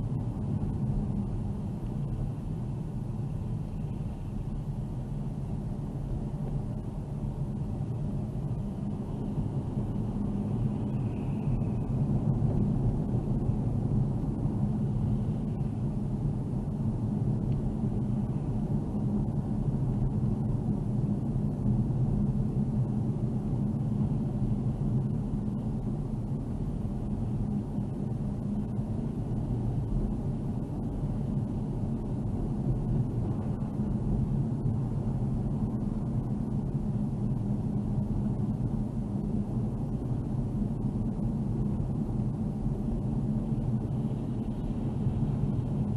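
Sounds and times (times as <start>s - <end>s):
car engine and tyre road noise: 0.0s - 45.9s.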